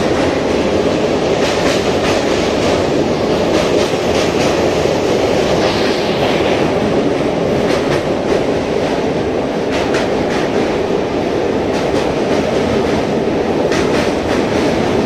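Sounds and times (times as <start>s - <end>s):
train wheels rumbling on bridge: 0.0s - 15.0s.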